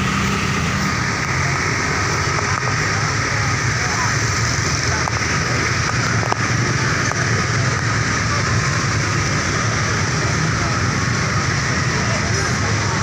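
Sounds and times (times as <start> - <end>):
bus engine: 0.0 - 13.0
road noise: 0.0 - 13.0.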